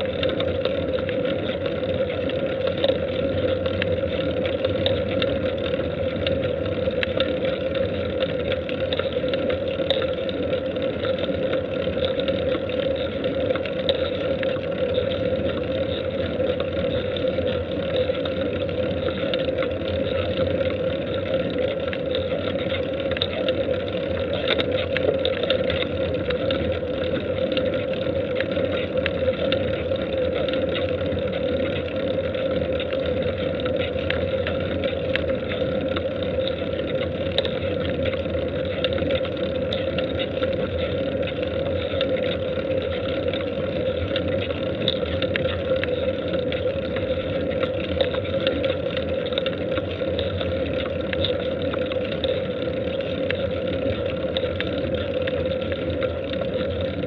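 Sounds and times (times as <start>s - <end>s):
faint ticks: 0.0s - 57.0s.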